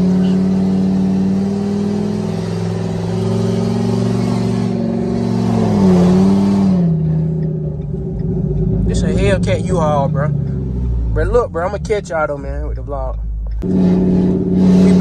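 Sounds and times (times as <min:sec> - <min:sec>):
loud truck engine accelerating: 0:00.0 - 0:12.4, 0:13.4 - 0:15.0.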